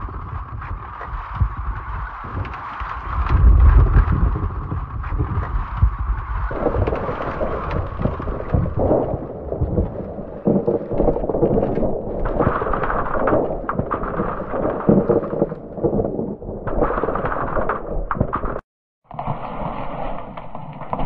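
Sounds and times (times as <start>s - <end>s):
ice cracking and crashing: 0.0s - 21.0s
low rumble of ice: 0.0s - 21.0s.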